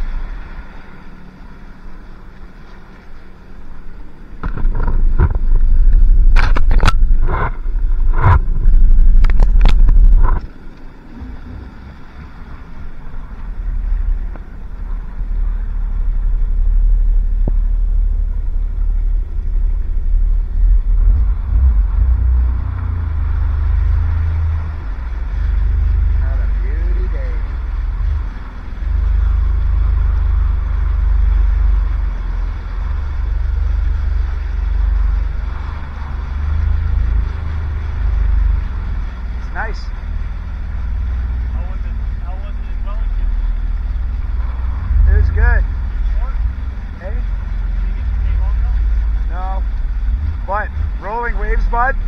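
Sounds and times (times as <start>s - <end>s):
jet ski engine: 0.0s - 52.0s
wind rumble on microphone: 0.0s - 52.0s.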